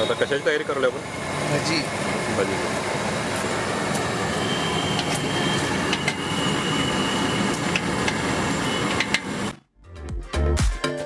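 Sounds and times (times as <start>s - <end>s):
street food cart background noise: 0.0s - 9.7s.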